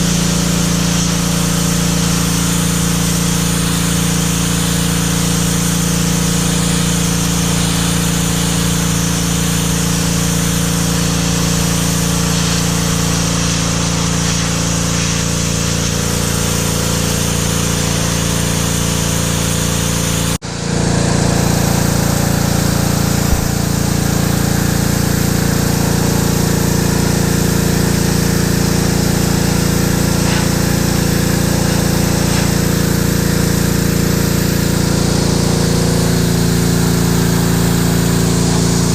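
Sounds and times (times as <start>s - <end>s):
high-pressure water spray hiss: 0.0s - 38.9s
pressure washer engine drone: 0.0s - 38.9s.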